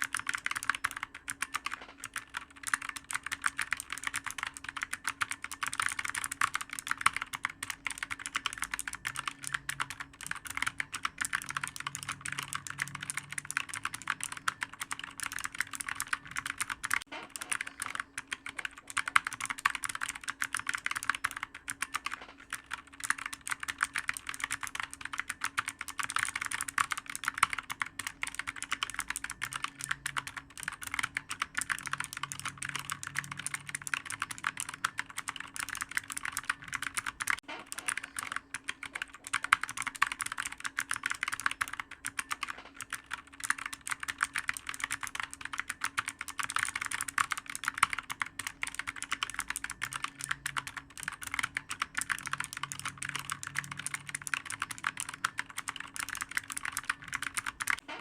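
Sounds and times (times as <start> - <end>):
fast typing on clicky keyboard: 0.0 - 57.9
faint steady hum: 0.0 - 58.0.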